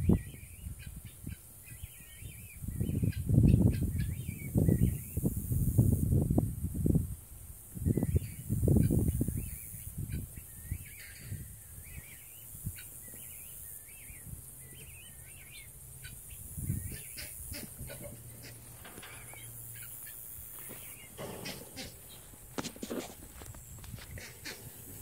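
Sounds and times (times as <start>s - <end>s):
songbird singing: 0.0s - 6.1s, 7.6s - 25.0s.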